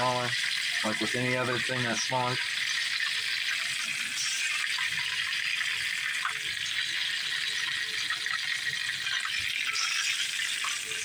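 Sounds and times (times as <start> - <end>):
fish sizzling in hot oil: 0.0 - 11.0
oil crackling and popping: 0.0 - 11.0.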